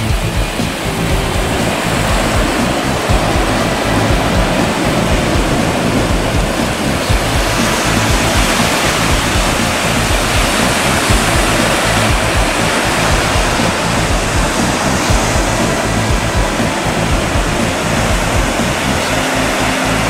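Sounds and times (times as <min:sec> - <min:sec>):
wind rumbling on microphone: 0:00.0 - 0:20.0
surf breaking on a beach: 0:00.4 - 0:20.0.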